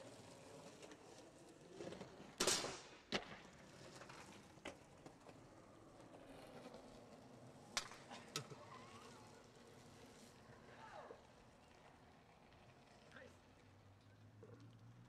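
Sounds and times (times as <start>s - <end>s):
skateboard clacks on asphalt: 0.0s - 15.0s.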